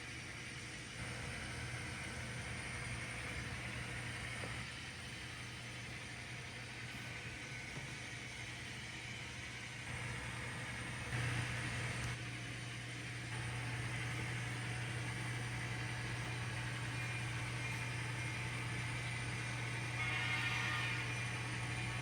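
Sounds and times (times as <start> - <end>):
model train humming and whirring: 0.0 - 22.0.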